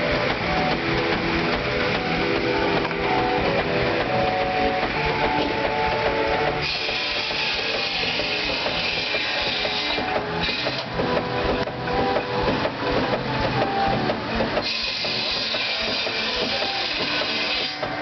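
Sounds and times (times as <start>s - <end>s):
steam engine mechanical clatter: 0.0s - 18.0s.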